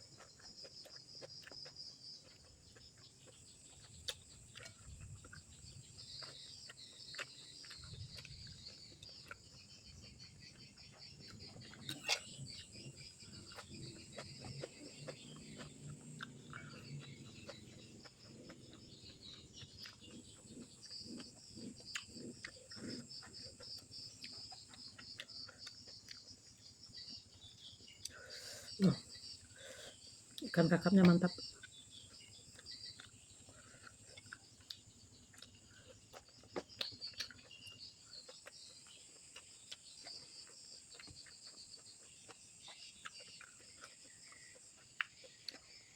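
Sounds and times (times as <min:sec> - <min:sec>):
insects chirring: 0:00.0 - 0:45.9
person chewing with mouth clicks: 0:00.0 - 0:45.9.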